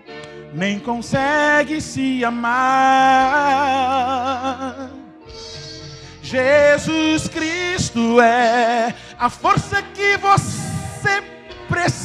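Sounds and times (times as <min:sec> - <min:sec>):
man singing with vibrato: 0:00.5 - 0:12.0.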